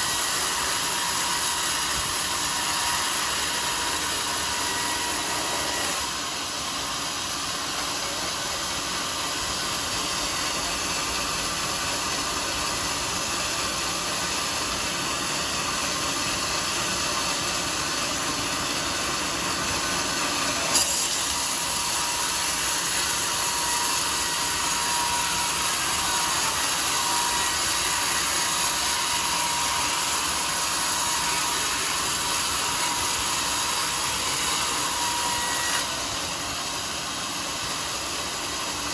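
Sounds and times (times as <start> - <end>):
sawmill saw cutting log: 0.0 - 38.9.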